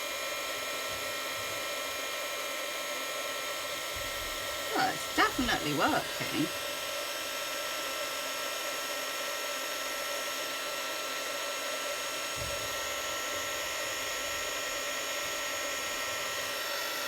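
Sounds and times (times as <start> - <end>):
heat gun fan hiss and whine: 0.0 - 17.0.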